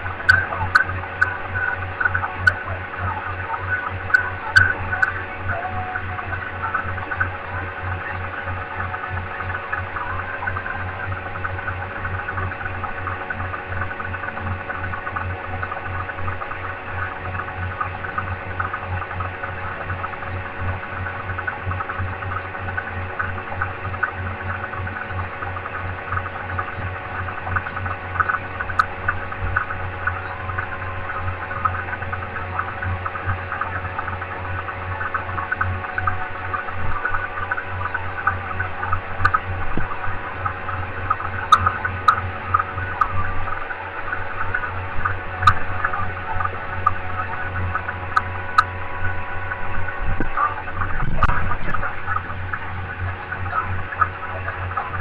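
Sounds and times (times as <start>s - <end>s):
light crackle: 0.0s - 55.0s
pulsing mechanical hum: 0.0s - 55.0s.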